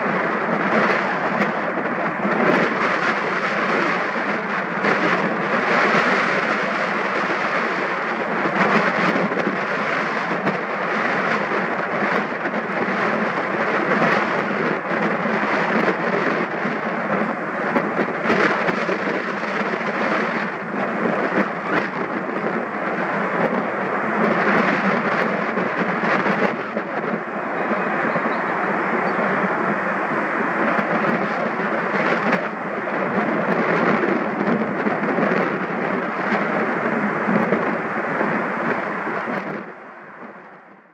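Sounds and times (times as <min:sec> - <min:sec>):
jet roar with crackles: 0:00.0 - 0:40.9.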